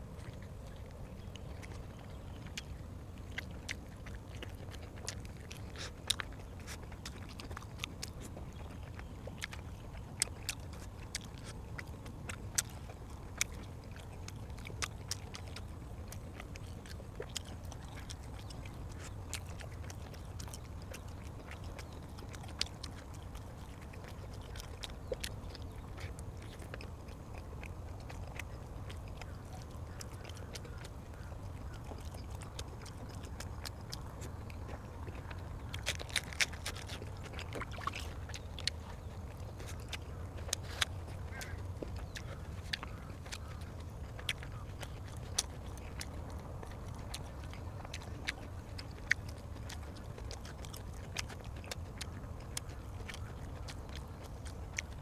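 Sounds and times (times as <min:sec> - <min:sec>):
person chewing with wet smacks: 0:00.0 - 0:55.0
steady low hum: 0:00.0 - 0:55.0.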